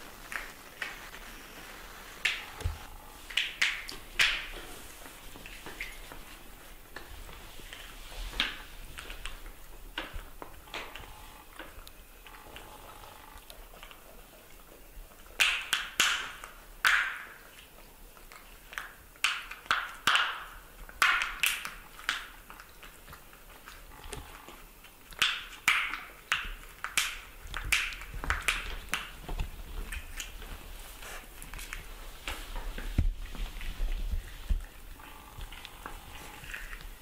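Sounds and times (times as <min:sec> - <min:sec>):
wet smacking and chewing sounds: 0:02.2 - 0:37.0.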